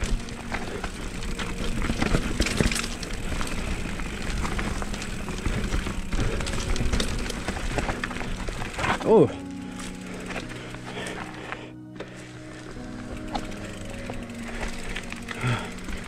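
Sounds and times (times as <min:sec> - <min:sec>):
bike knocks and rattles: 0:00.0 - 0:11.1, 0:13.0 - 0:16.0.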